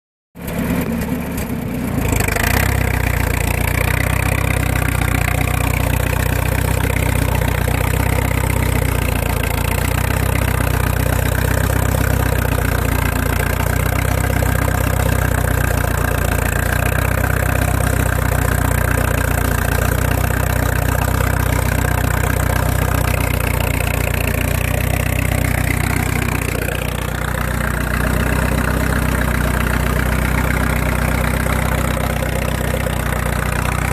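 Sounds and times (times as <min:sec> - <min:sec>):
tractor engine running: 0:00.4 - 0:33.9.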